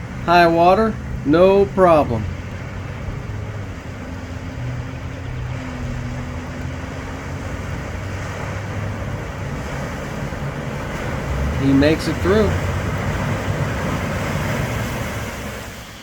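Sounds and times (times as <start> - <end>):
vehicle engine running: 0.0 - 16.0
water washing: 0.0 - 16.0.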